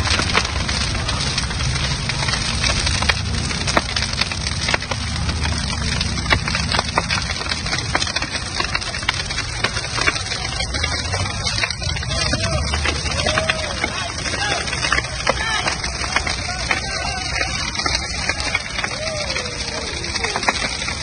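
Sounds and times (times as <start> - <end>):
burning tyres crackling: 0.0 - 21.0
low fire rumble: 0.0 - 21.0
sharp pops and snaps: 0.0 - 21.0.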